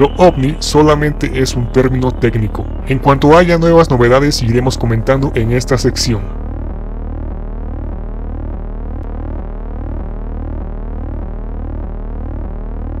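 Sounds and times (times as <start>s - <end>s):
low electronic drone: 0.0s - 13.0s.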